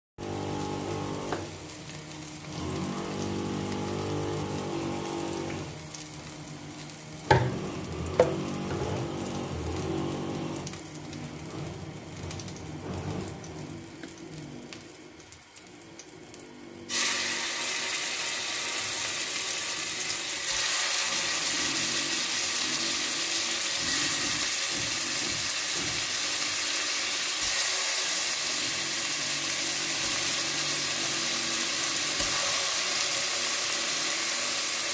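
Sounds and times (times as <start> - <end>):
beef sizzling in hot oil: 0.2 - 16.2, 16.9 - 34.9.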